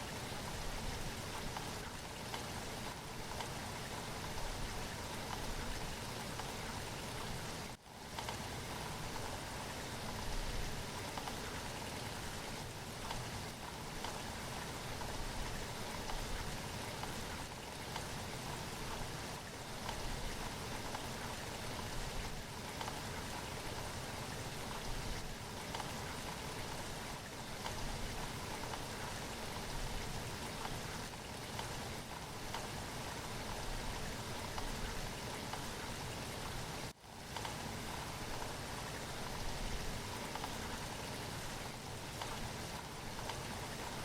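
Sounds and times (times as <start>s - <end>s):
louder raindrops: 0.0s - 44.0s
steady rain falling: 0.0s - 44.0s.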